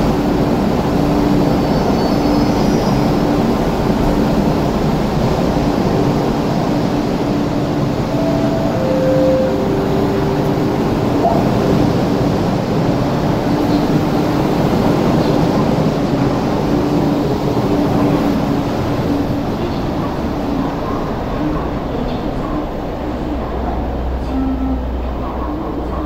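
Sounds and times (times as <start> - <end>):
electric train rumble and hum: 0.0 - 26.0.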